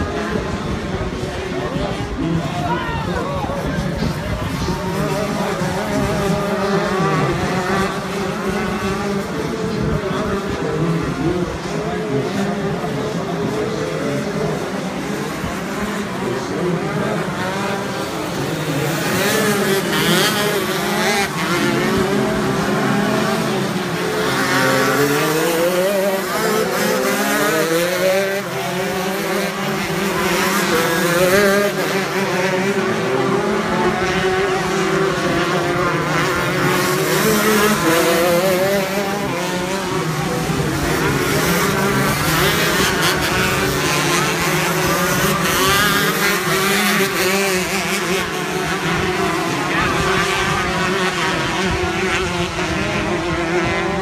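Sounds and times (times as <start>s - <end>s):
kart engines revving: 0.0s - 54.0s.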